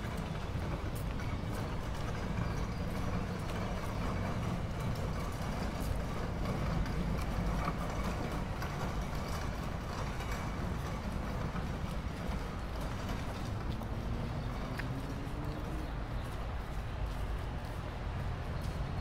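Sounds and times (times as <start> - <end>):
footsteps on stone paving: 0.0 - 7.5, 8.4 - 19.0
low rumble of traffic: 0.0 - 19.0.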